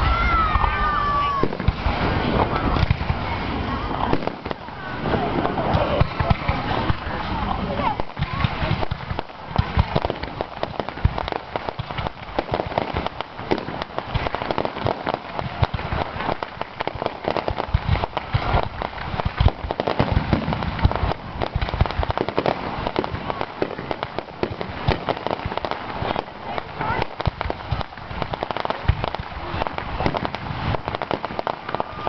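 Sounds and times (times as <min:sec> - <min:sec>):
fireworks booms: 0:00.0 - 0:32.0
fireworks crackling: 0:00.0 - 0:32.0.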